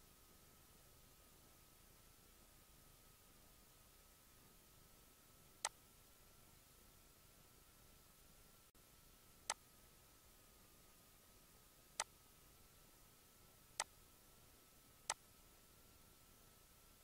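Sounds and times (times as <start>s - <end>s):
faint hiss: 0.0s - 17.0s
faint steady whine: 0.0s - 17.0s.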